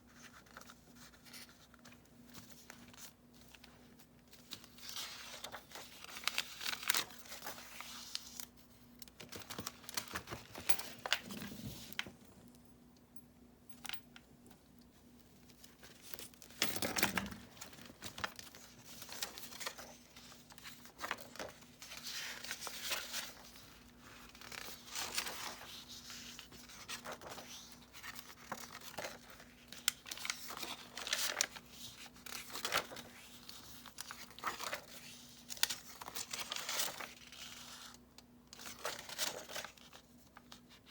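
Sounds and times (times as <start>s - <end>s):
paper pages rustling: 0.0s - 12.4s, 15.4s - 38.0s, 38.6s - 40.9s.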